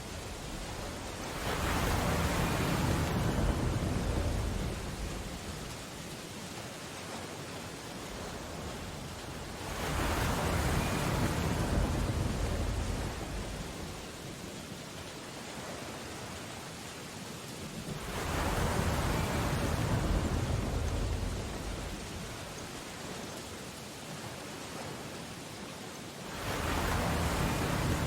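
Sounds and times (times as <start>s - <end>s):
ocean waves crashing: 0.0s - 25.3s, 26.2s - 28.0s
stormy sea: 0.0s - 28.0s.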